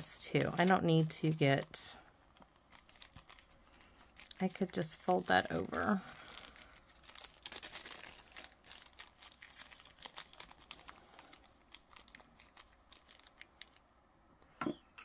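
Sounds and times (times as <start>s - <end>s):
plastic bag crinkling: 0.0s - 13.9s.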